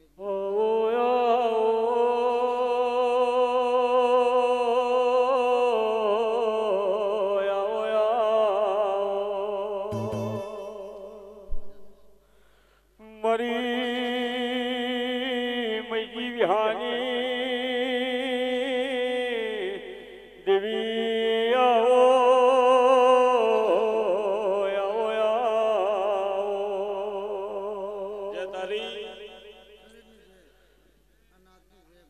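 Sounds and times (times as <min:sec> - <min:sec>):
devotional singing with vibrato: 0:00.0 - 0:31.1.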